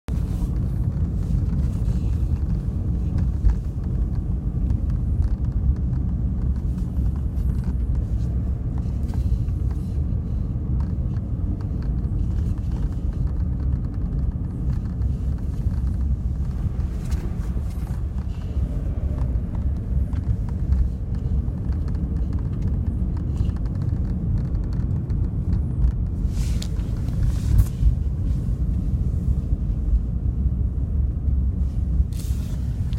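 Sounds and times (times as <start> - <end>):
road and engine rumble: 0.0 - 32.9
dashboard ticks and creaks: 0.4 - 28.8.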